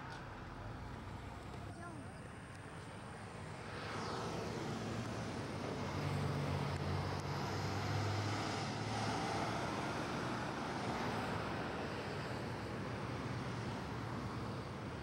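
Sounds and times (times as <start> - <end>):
low engine hum: 0.0 - 15.0
road and wind noise inside car: 0.0 - 15.0
vehicles passing: 0.0 - 15.0.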